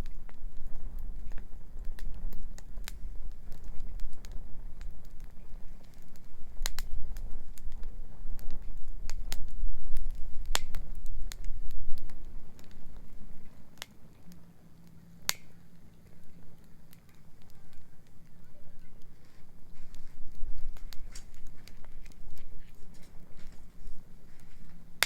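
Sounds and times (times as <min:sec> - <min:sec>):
bonfire crackling: 0:00.0 - 0:25.0.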